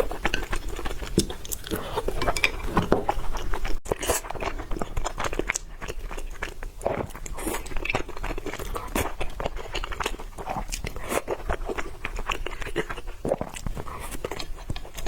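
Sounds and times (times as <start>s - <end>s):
crunchy chewing of food: 0.0s - 15.0s.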